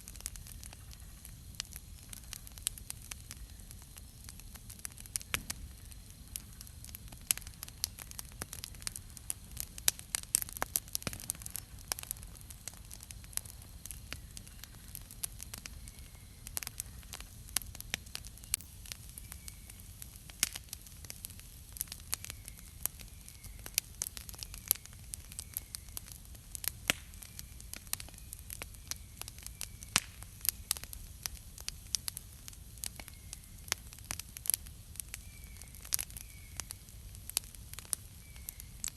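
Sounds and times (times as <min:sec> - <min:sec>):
burning wood popping: 0:00.0 - 0:38.9
campfire crackling: 0:00.0 - 0:38.9.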